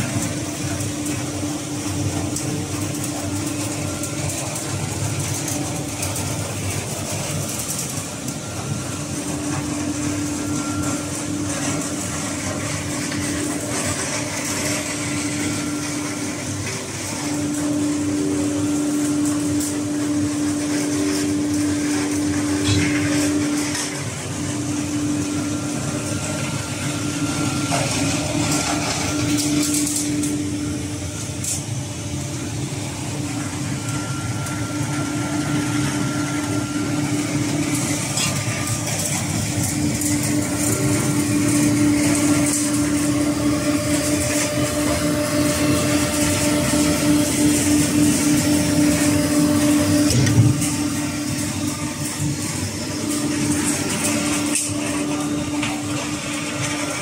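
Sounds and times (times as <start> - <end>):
baler machinery humming: 0.0 - 57.0.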